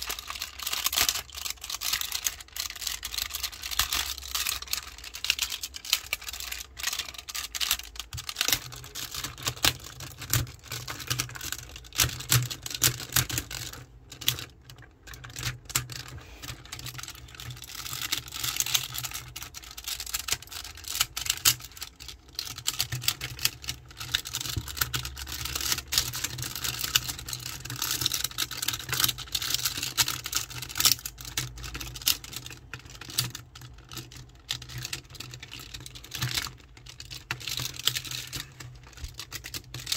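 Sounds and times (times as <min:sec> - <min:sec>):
plastic toy parts clicking: 0:00.0 - 0:39.9.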